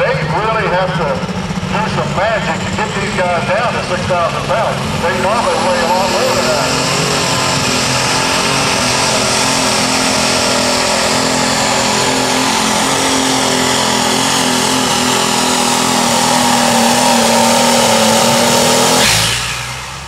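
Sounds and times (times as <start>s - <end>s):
diesel tractor engine droning: 0.0s - 20.0s.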